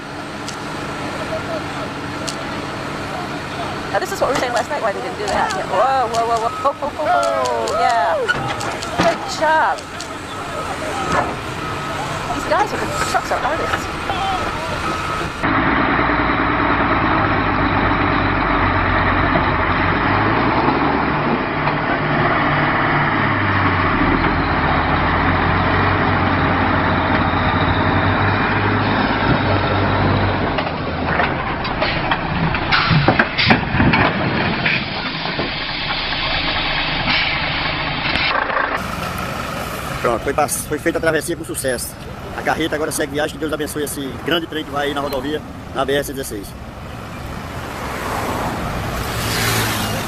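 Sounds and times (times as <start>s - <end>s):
truck diesel engine running: 0.0s - 50.0s.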